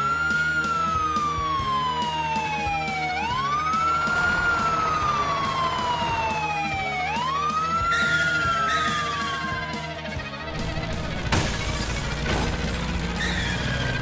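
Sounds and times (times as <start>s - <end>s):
emergency vehicle siren wailing: 0.0s - 12.2s
background music with steady beat: 0.0s - 14.0s.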